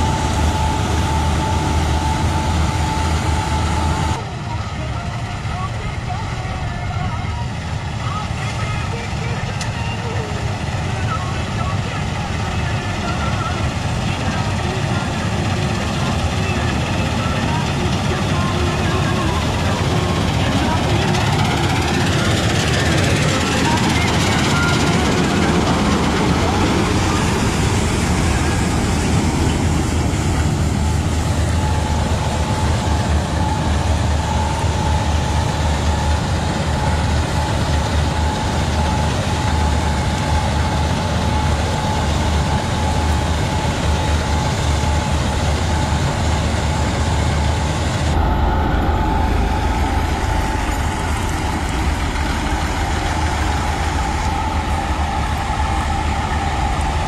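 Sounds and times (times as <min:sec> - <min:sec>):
combine harvester running: 0:00.0 - 0:57.0
steady high whine: 0:00.0 - 0:57.0.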